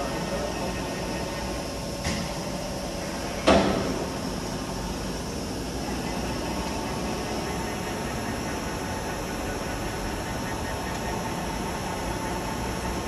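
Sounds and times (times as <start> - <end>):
factory background noise: 0.0 - 13.0.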